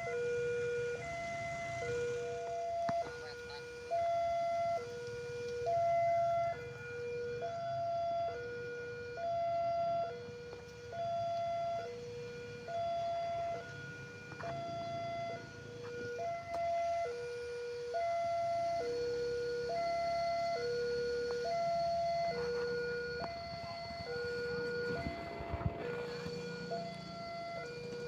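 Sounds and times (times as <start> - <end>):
two-tone warning siren: 0.0 - 28.0.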